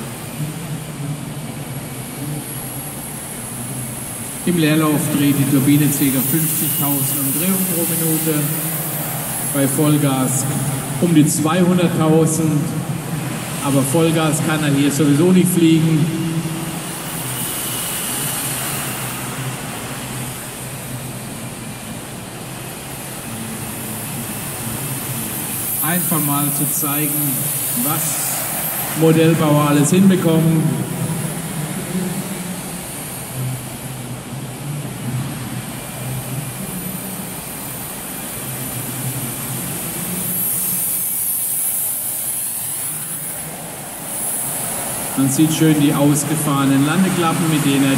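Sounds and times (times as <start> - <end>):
low hall hum: 0.0 - 47.9
model jet turbine hissing rush: 0.0 - 47.9.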